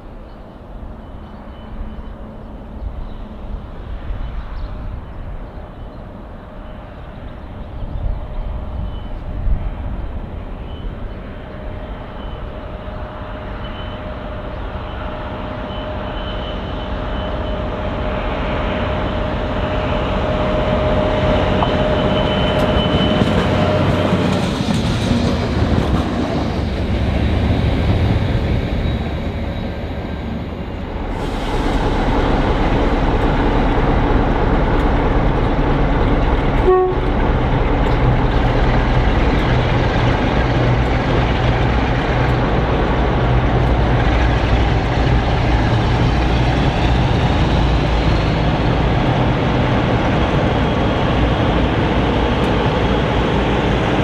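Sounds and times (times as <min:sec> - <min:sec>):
freight train passing: 0:00.0 - 0:54.0
steady train tone: 0:00.0 - 0:54.0.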